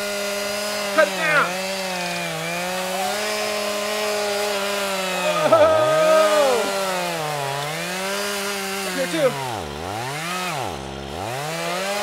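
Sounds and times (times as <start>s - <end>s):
chainsaw cutting tree trunk: 0.0s - 12.0s.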